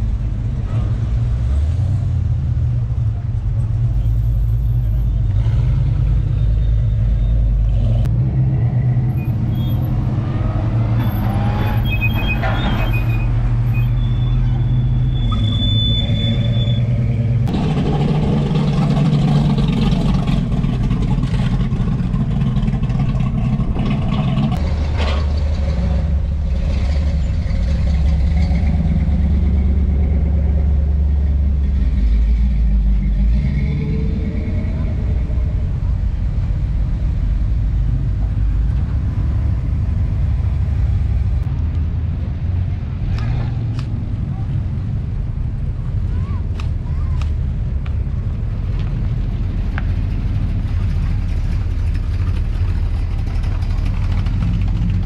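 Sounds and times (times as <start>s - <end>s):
cars driving past: 0.0s - 55.0s.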